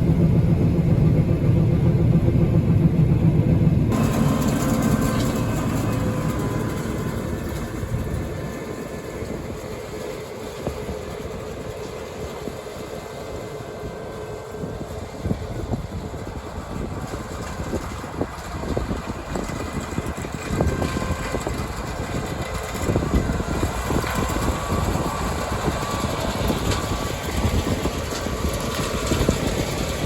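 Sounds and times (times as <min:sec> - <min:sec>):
diesel farm machinery rumbling: 0:00.0 - 0:30.0.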